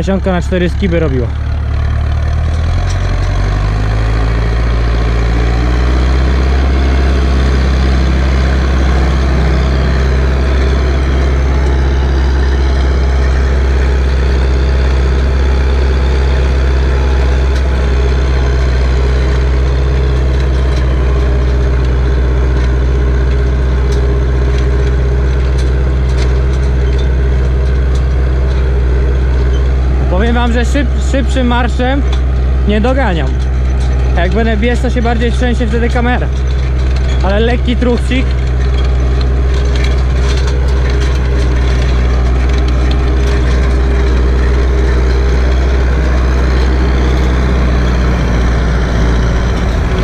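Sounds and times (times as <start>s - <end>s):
tractor diesel engine droning: 0.0s - 50.0s.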